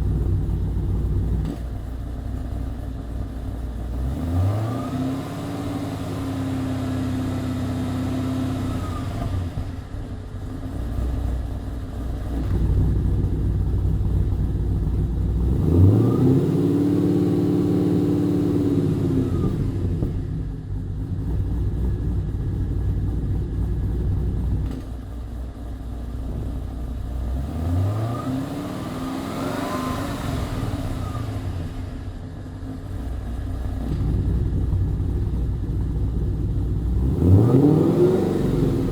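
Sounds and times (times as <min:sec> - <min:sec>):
car engine revving and idling: 0:00.0 - 0:38.9.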